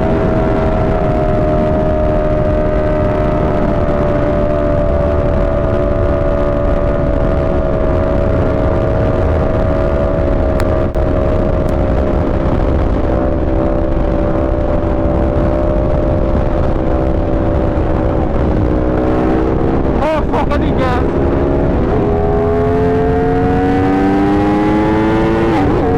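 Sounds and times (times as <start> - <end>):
motorcycle engine cruising: 0.0 - 25.9.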